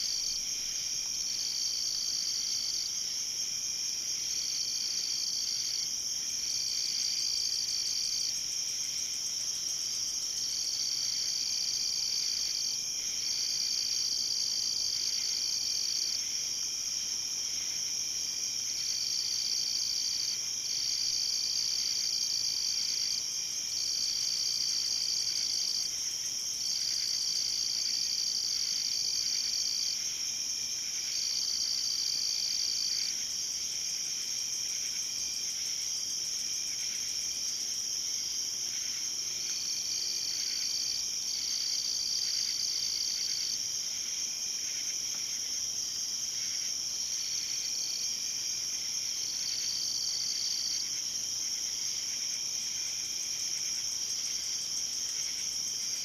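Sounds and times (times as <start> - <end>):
high-pitched insect trill chorus: 0.0 - 56.0
lower insect trill: 0.0 - 56.0.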